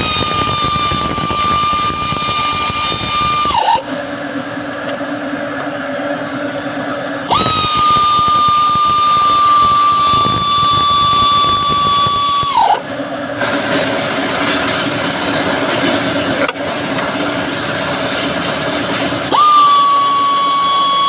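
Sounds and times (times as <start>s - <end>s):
mechanical hum: 0.0s - 21.0s
power tool whining: 0.0s - 21.0s.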